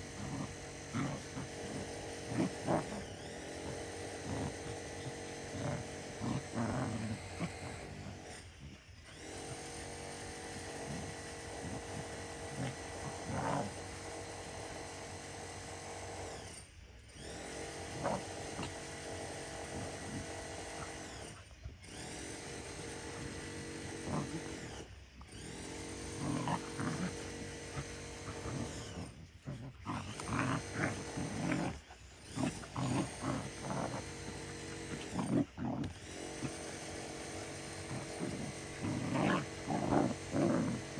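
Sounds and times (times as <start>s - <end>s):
dogs growling while play-fighting: 0.0s - 16.6s, 17.2s - 40.9s
steady motor-like hum: 0.0s - 40.9s.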